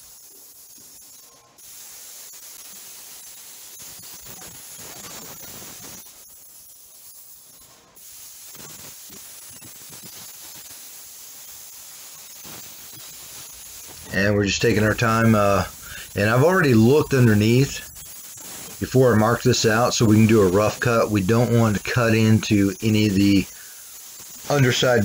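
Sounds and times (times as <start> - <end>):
plasma cutter hissing: 0.0 - 25.0.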